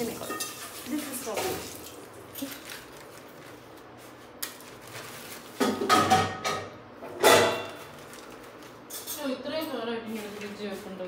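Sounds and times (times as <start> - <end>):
plastic bag rustling: 0.0 - 6.0, 7.6 - 11.0.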